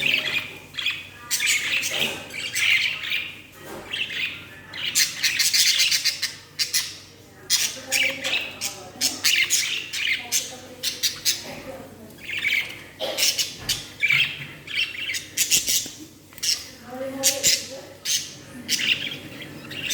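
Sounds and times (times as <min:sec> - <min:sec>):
budgerigar squawking and chirping: 0:00.0 - 0:11.5, 0:12.2 - 0:19.9.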